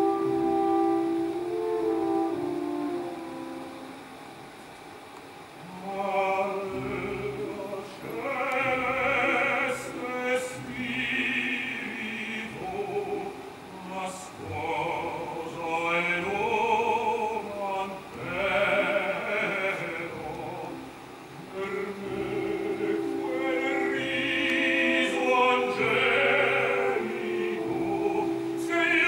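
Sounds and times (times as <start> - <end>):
orchestral accompaniment: 0.0 - 29.0
male opera voice singing: 5.6 - 29.0.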